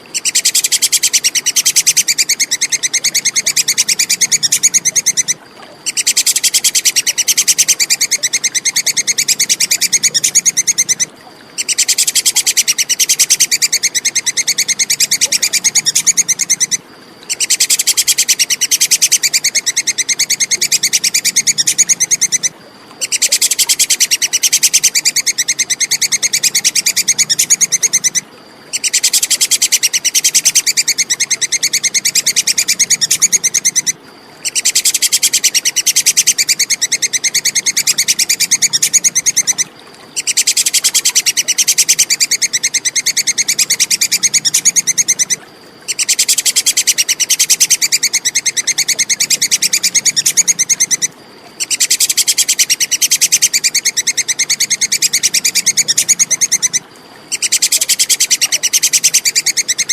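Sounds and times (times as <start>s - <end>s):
squirrel chattering call: 0.0s - 39.6s, 40.2s - 59.9s.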